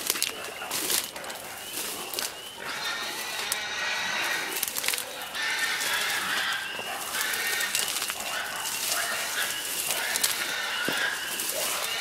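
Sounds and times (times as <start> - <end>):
high drawn-out animal calls: 0.0 - 12.0
reeds and brush crackling: 0.0 - 12.0.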